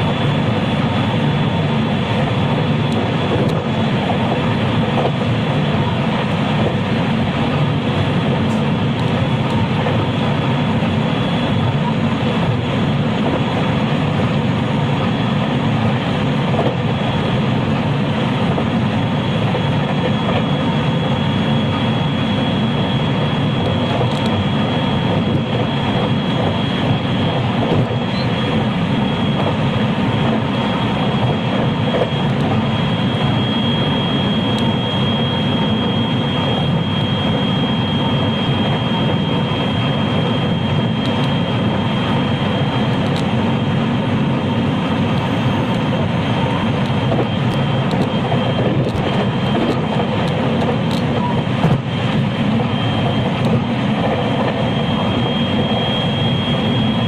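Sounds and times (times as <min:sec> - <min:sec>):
train rolling rumble: 0:00.0 - 0:57.0
electric motor high whine: 0:07.1 - 0:57.0.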